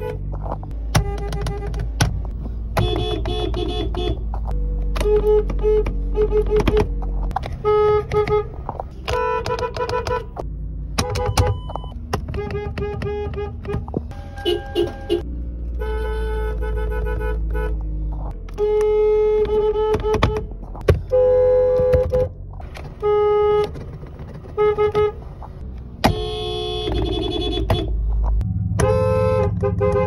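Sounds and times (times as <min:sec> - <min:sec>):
car horns tooting: 0:00.9 - 0:10.4, 0:11.0 - 0:25.4, 0:26.0 - 0:28.0, 0:28.7 - 0:30.0.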